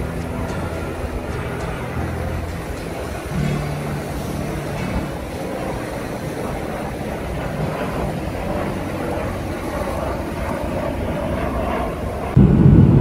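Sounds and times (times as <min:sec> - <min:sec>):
jet airliner flying overhead: 0:00.0 - 0:13.0.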